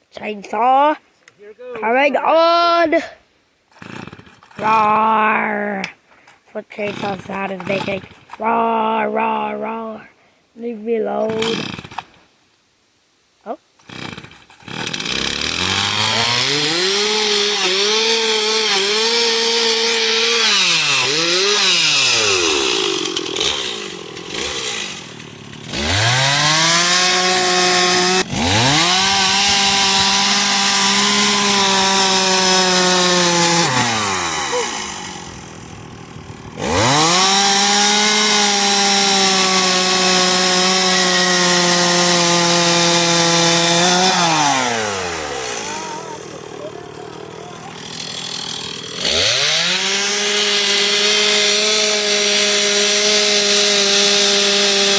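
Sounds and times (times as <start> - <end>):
chainsaw cutting wood: 3.7 - 5.2, 6.7 - 8.6, 11.2 - 12.2, 13.8 - 54.9.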